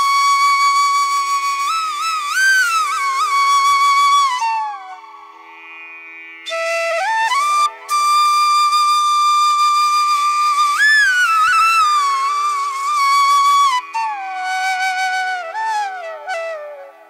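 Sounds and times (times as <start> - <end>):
solo flute melody: 0.0 - 5.5, 6.4 - 17.0.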